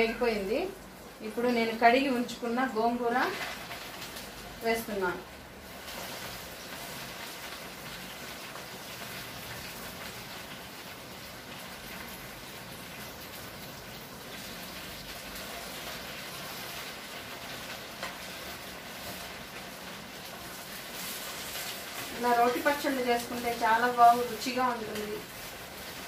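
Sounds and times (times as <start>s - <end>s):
leaves sizzling in hot oil: 0.0s - 26.0s.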